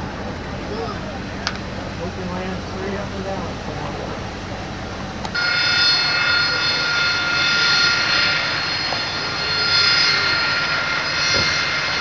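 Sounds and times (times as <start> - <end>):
aircraft turbine engine whine: 0.0 - 12.0.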